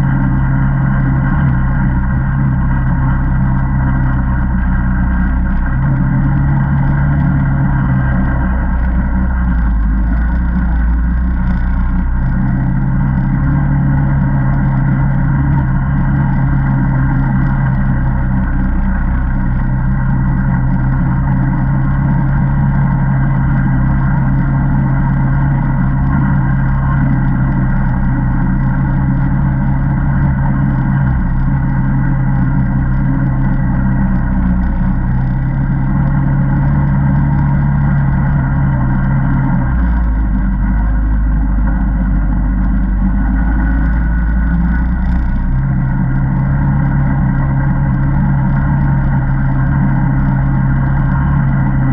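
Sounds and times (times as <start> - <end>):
atv engine running: 0.0 - 51.9.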